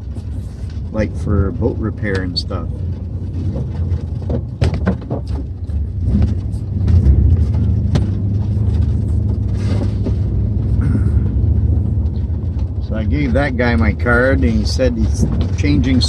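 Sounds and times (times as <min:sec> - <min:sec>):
knocks and rattles: 0:00.0 - 0:16.0
truck engine and road rumble: 0:00.0 - 0:16.0.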